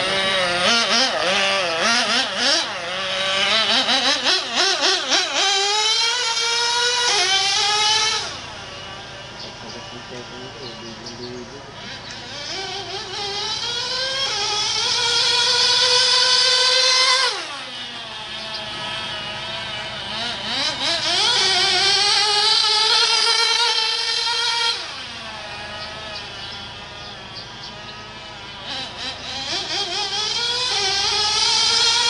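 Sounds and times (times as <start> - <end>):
small nitro engine revving: 0.0 - 32.0.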